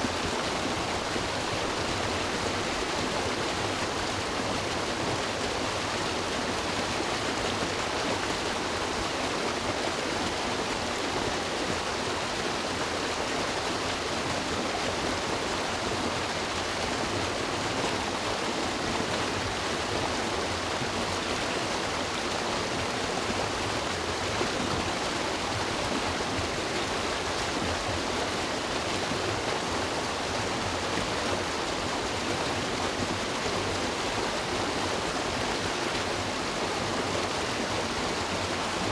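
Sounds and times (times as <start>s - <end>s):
river water running over rocks: 0.0s - 38.9s.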